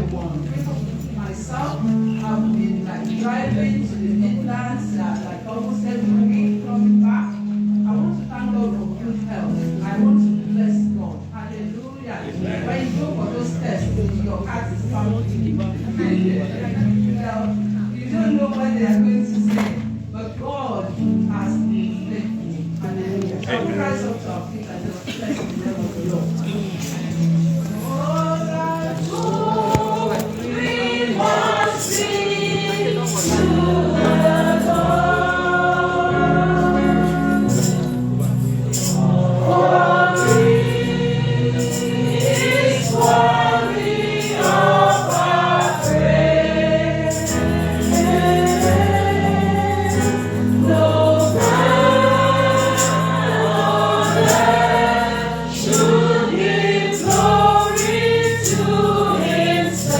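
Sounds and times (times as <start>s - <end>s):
congregation singing: 0.0s - 59.9s.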